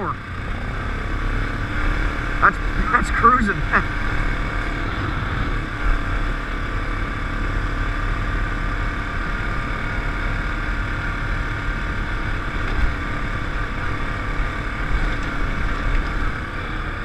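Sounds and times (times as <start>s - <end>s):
atv engine running steadily: 0.0s - 17.0s.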